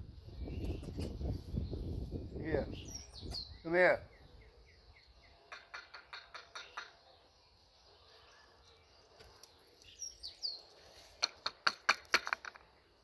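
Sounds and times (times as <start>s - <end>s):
bird chirping: 0.0s - 11.1s.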